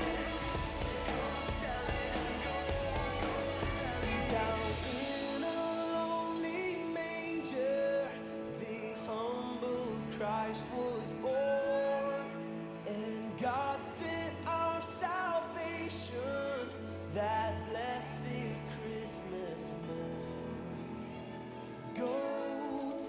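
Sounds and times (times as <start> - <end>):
person singing a song: 0.0 - 23.0.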